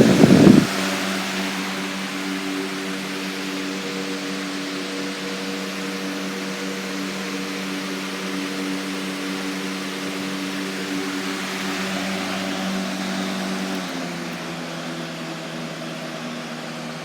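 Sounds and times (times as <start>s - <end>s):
box fan air rush: 0.0s - 17.0s
low motor hum: 0.0s - 17.0s.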